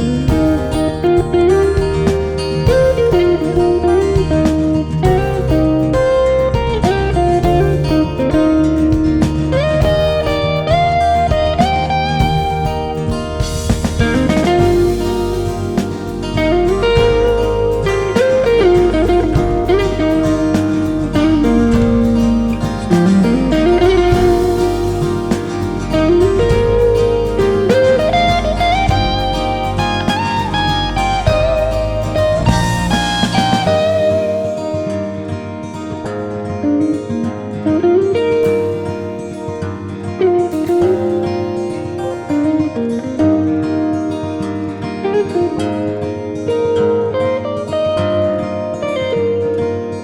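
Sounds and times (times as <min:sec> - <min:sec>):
electric guitar melody with slides: 0:00.0 - 0:50.0.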